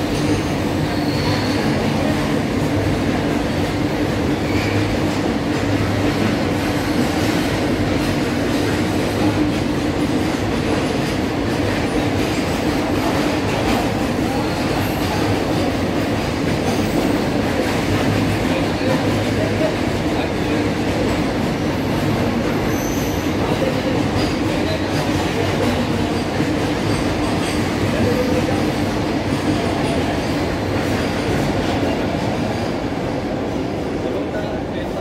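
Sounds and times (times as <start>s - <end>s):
freight train wheels clattering: 0.0s - 35.0s.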